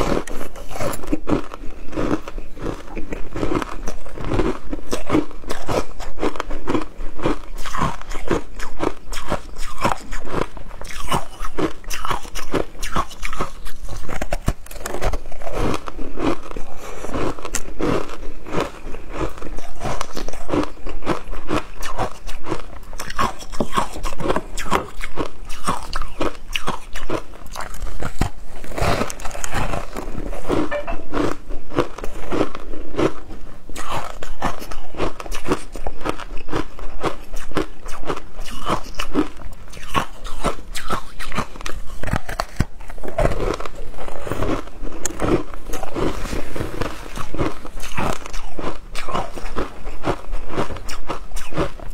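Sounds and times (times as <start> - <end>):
person crunching ice: 0.0 - 51.9.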